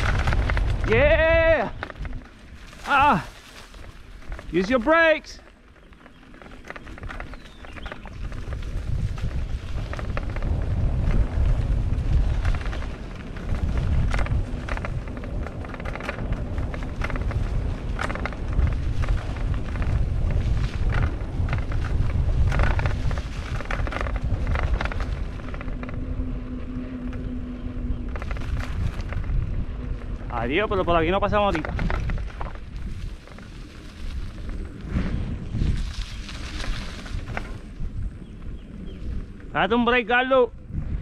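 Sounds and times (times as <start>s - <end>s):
bike clicking and rattling: 0.0s - 41.0s
bike tyres rolling on dirt: 0.0s - 41.0s
wind buffeting microphone: 0.0s - 41.0s.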